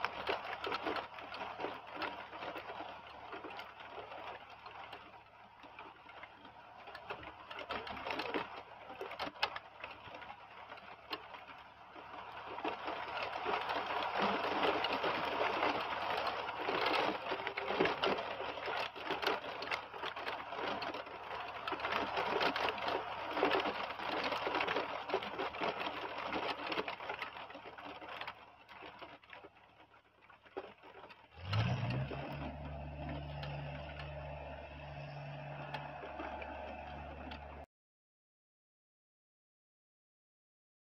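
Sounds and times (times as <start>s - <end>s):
heavy rain pattering: 0.0s - 37.7s.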